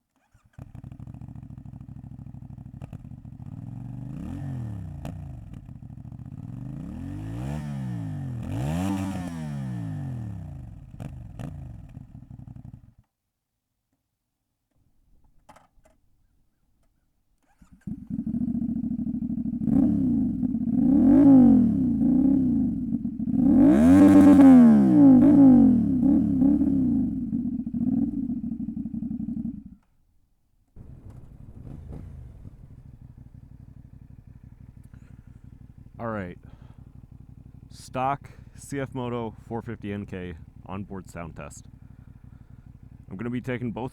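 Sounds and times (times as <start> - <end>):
motorcycle engine idling and revving: 0.2 - 13.1, 16.8 - 43.9
quieter steady engine: 0.6 - 13.0, 16.8 - 43.9.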